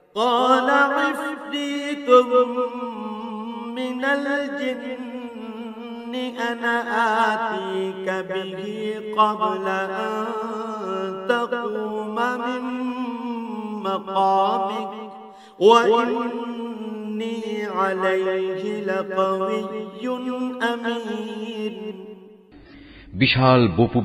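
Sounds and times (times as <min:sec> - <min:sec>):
man chanting melodically: 0:00.0 - 0:22.1, 0:23.0 - 0:24.0.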